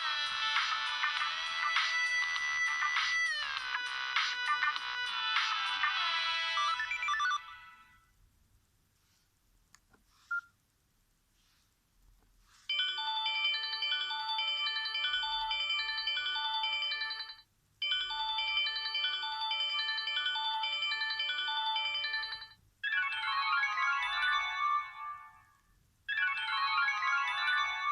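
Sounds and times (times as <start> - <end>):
phone ringtone melody: 0.0 - 8.0, 12.7 - 27.9.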